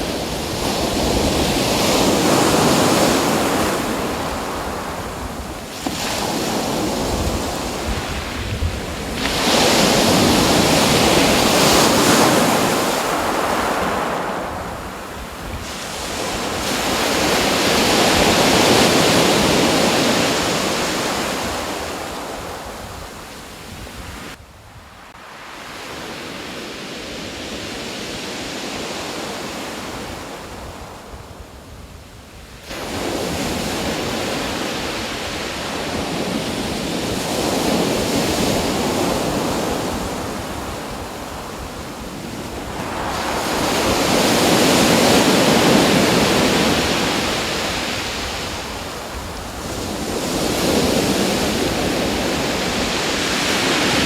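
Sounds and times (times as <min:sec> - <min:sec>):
rushing water roar: 0:00.0 - 0:23.7, 0:32.6 - 0:54.0.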